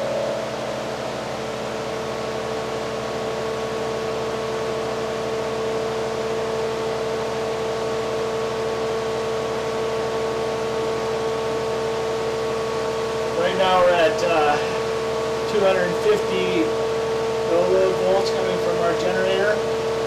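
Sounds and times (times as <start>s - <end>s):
generator humming with whine: 0.0s - 20.0s.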